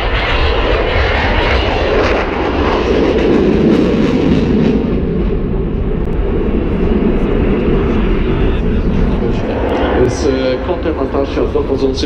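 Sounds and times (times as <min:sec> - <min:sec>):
fighter jet engines rumbling: 0:00.0 - 0:12.0.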